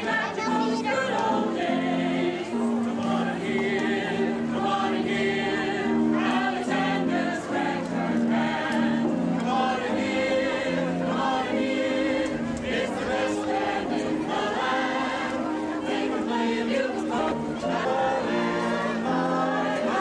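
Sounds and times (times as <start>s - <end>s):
group singing in chorus: 0.0s - 20.0s.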